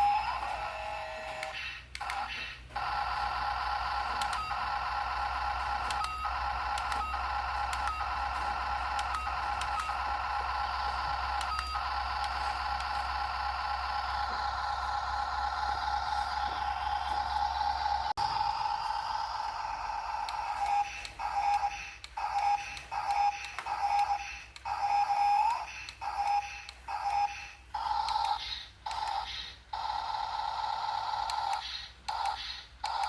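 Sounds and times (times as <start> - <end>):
toy truck motor whine: 0.0 - 33.0.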